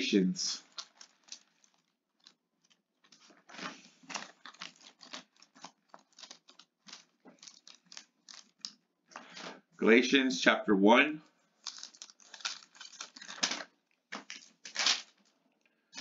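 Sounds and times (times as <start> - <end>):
thin pages rustling: 0.6 - 9.6, 11.6 - 16.0.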